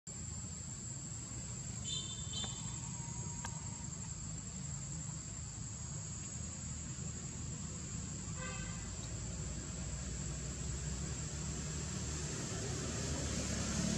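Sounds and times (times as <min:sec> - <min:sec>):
insects droning high-pitched: 0:00.1 - 0:13.9.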